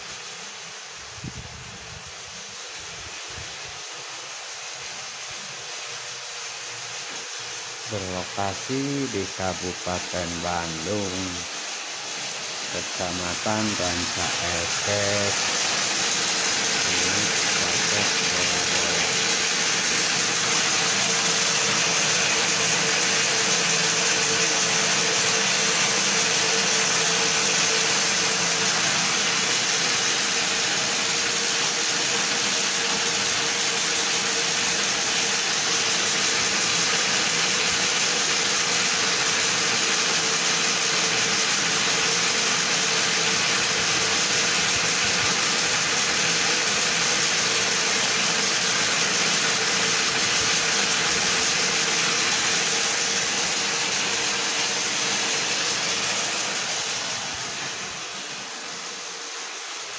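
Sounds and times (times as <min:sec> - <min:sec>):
yarn winding machine whirring: 0:02.7 - 0:59.9.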